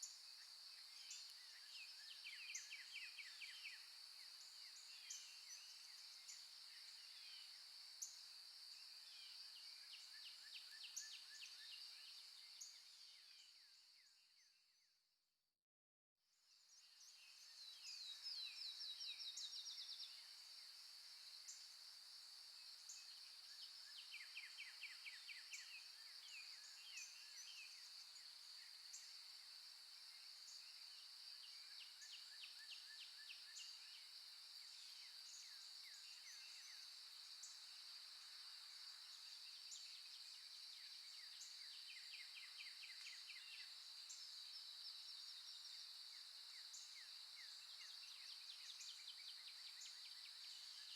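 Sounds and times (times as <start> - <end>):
steady high-pitched hiss: 0.0 - 14.1, 16.6 - 50.9.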